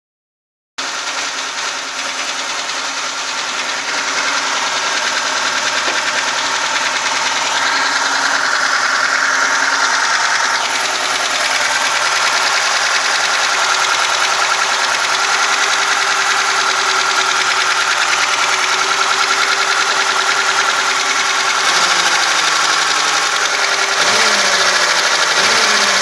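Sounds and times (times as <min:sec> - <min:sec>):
car engine running: 0:00.8 - 0:26.0
rapid ticking of valve rockers: 0:00.8 - 0:26.0.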